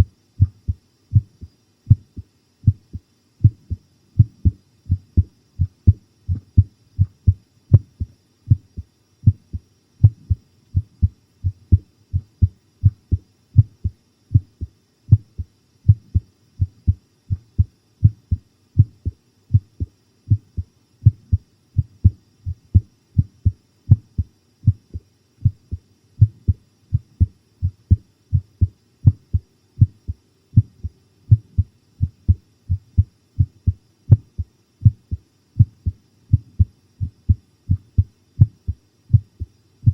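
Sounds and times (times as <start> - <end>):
heartbeat pounding: 0.0 - 39.9.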